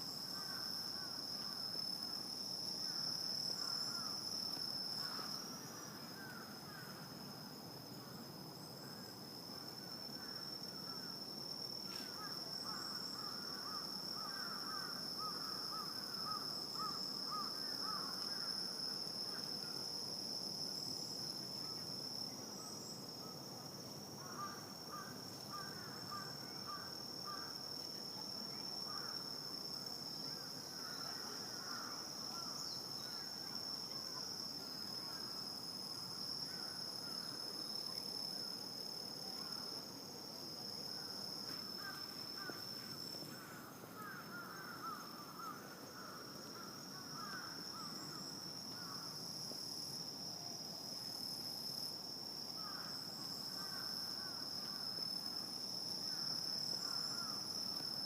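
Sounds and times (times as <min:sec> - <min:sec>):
insect high-pitched trill: 0:00.0 - 0:58.0
rapid lower insect chirping: 0:00.0 - 0:58.0.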